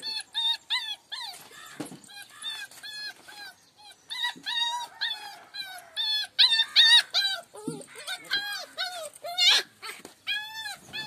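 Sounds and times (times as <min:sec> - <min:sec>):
dog yelping: 0:00.0 - 0:11.0.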